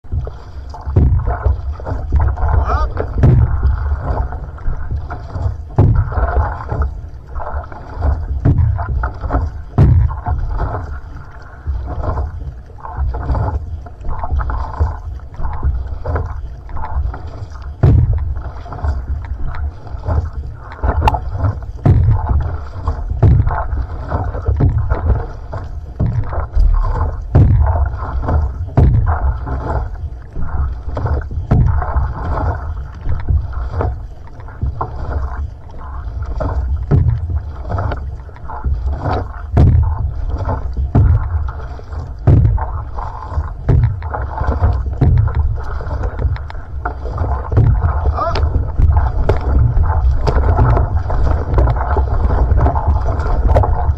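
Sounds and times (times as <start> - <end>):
paddle blade splashing: 0.0 - 53.9
water rushing along hull: 0.0 - 53.9.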